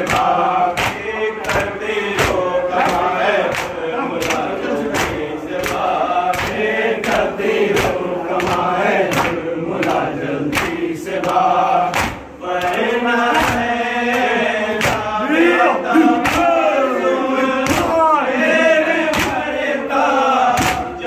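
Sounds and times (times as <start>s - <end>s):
hands slapping chests: 0.0s - 15.1s, 16.0s - 16.7s, 17.6s - 18.0s, 19.1s - 19.5s, 20.5s - 20.9s
men chanting in unison: 0.0s - 21.0s.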